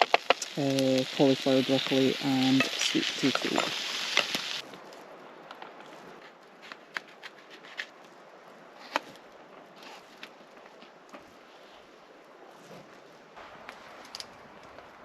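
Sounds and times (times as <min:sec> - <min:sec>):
cooking fire crackling: 0:00.0 - 0:15.0.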